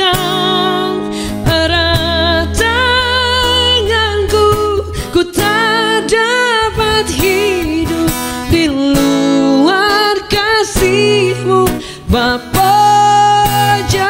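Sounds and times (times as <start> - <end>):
acoustic guitar strumming: 0.0 - 14.0
woman singing: 0.0 - 14.0.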